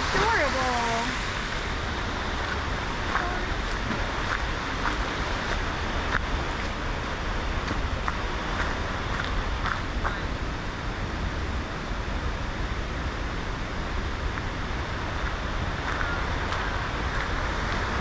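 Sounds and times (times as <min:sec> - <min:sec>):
waterfall roar: 0:00.0 - 0:18.0.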